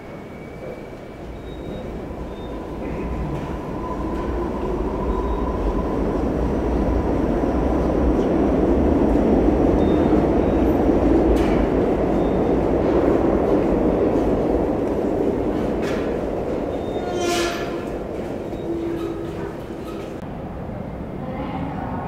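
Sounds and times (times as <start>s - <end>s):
subway train wheel and motor rumble: 0.0s - 22.0s.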